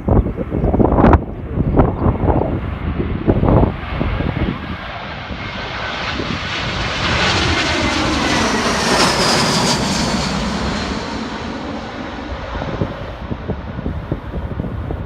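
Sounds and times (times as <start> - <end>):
jet airliner passing overhead: 0.0 - 15.0
jet engine whine: 0.0 - 15.0.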